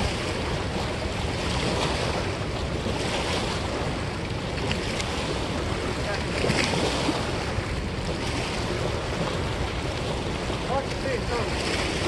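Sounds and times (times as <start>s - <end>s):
river water rushing: 0.0s - 12.0s
wind buffeting microphone: 0.0s - 12.0s.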